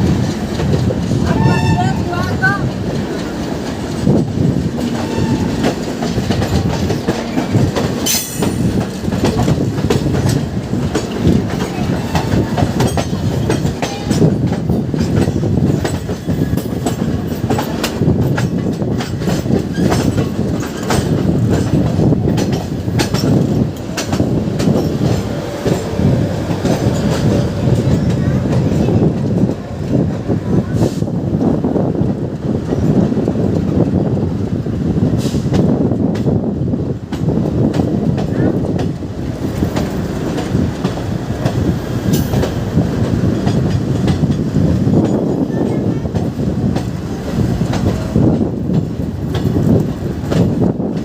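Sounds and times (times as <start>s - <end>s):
train wheels clattering over rails: 0.0s - 51.0s.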